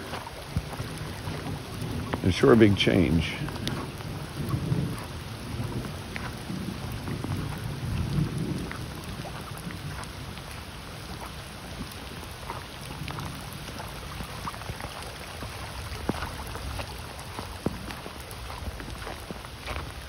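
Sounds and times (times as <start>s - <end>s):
raindrops tapping: 0.0s - 20.0s.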